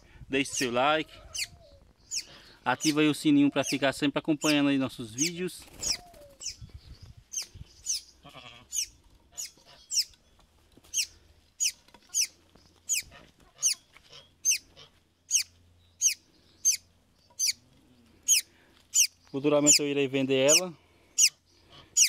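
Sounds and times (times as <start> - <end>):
bird chirping: 0.4 - 22.0.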